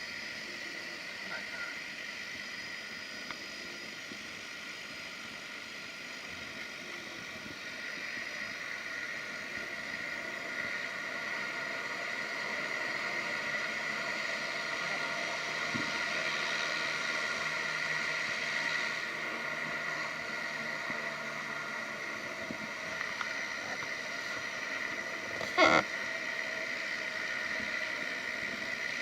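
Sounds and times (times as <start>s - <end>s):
turboprop engines whining: 0.0s - 29.0s.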